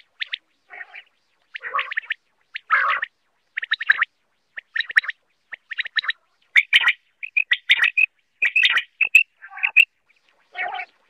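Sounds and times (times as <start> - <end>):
quail calling: 0.0 - 9.9, 10.5 - 11.0.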